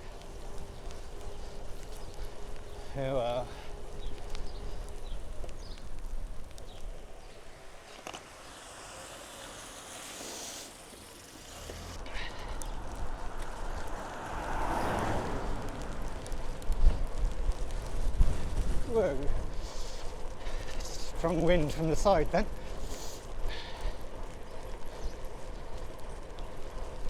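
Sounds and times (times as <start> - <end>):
wind buffeting microphone: 0.0 - 7.9, 12.0 - 27.0.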